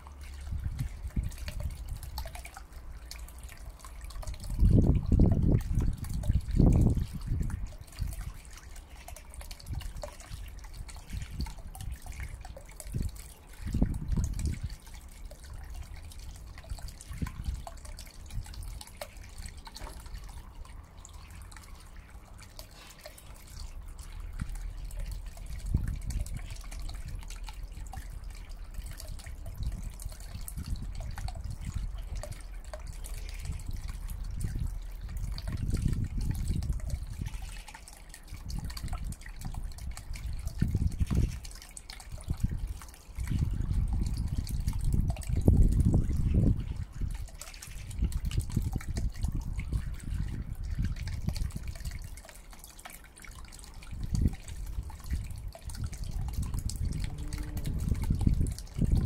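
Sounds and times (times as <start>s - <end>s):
water splashing and dripping: 0.0s - 59.0s.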